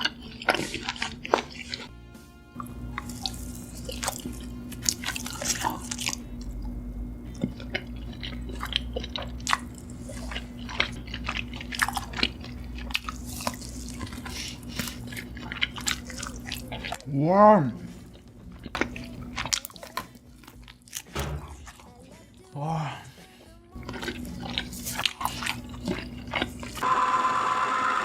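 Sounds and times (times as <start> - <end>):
wet chewing and mouth smacking: 0.0 - 1.9, 2.6 - 26.8
steady low hum: 0.0 - 26.8.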